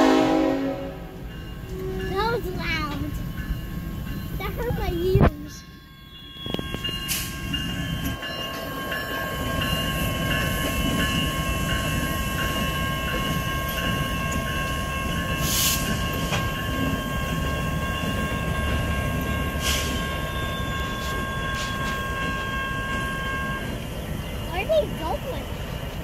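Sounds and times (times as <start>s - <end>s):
crossing signal ringing: 0.0s - 25.8s
diesel locomotive engine rumble: 0.0s - 26.0s
train wheels on rails: 0.0s - 26.0s.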